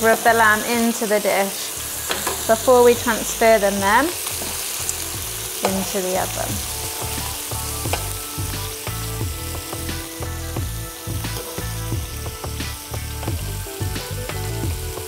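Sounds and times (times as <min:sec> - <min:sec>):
meatballs sizzling in frying pan: 0:00.0 - 0:15.0.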